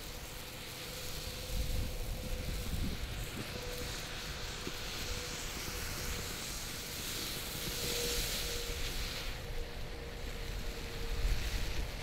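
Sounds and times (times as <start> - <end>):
firework fountain hissing: 0.0 - 12.0
wind rumble on microphone: 0.0 - 12.0.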